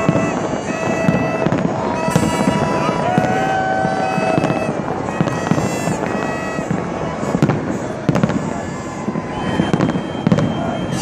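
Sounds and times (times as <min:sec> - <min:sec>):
fireworks bursting and crackling: 0:00.0 - 0:11.0
held horn-like tones: 0:00.0 - 0:11.0.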